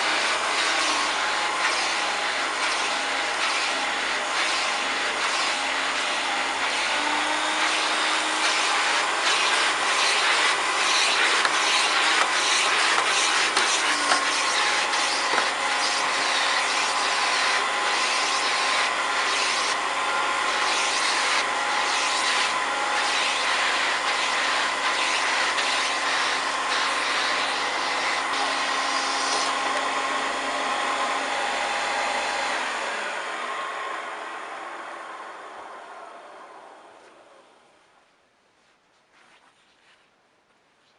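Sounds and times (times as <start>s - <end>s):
vacuum cleaner running: 0.0s - 37.8s.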